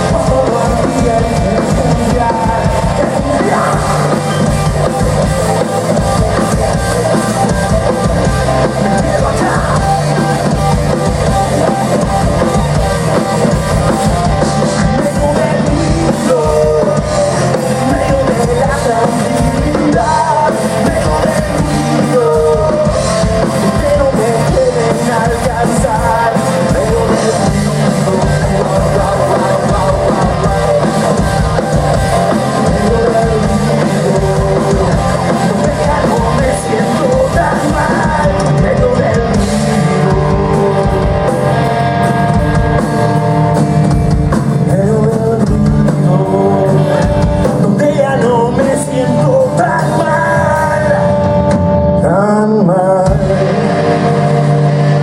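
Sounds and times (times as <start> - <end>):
drum kit: 0.0 - 55.0
electric guitars: 0.0 - 55.0
person singing: 0.0 - 55.0.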